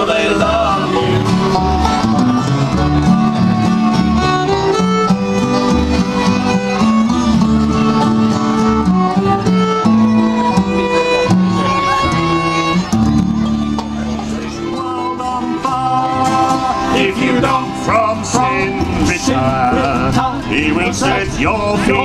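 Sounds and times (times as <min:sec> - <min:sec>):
bluegrass band playing: 0:00.0 - 0:22.0
fiddle bowed notes: 0:00.0 - 0:22.0.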